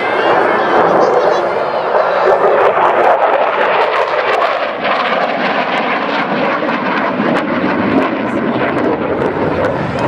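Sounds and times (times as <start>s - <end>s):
fighter jet flying overhead: 0.0s - 10.0s.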